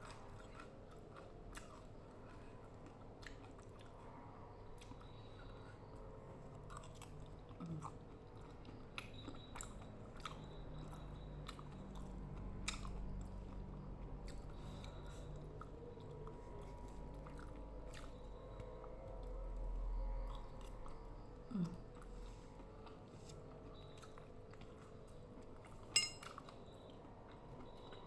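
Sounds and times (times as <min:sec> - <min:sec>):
close-up chewing with crunches: 0:00.0 - 0:28.0.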